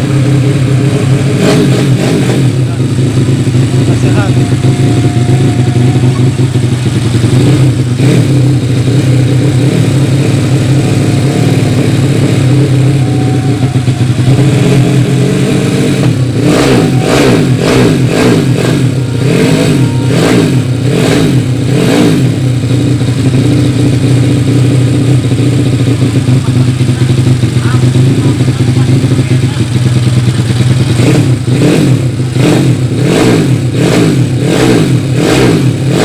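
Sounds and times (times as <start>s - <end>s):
motorcycle engine revving and idling: 0.0s - 36.0s.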